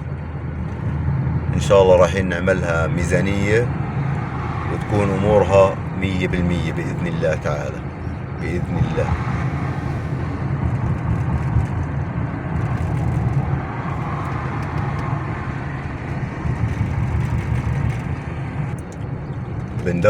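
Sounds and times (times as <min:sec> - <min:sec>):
car engine running: 0:00.0 - 0:20.0
road and tyre noise: 0:00.0 - 0:20.0.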